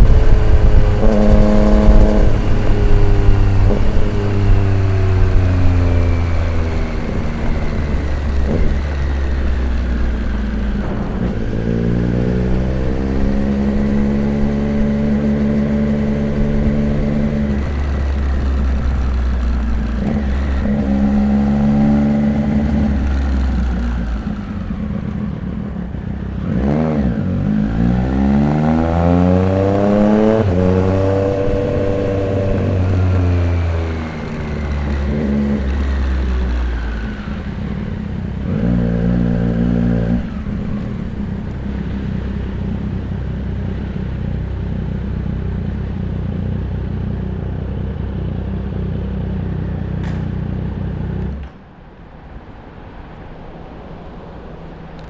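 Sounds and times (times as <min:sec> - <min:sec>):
motorcycle engine revving: 0:00.0 - 0:51.7.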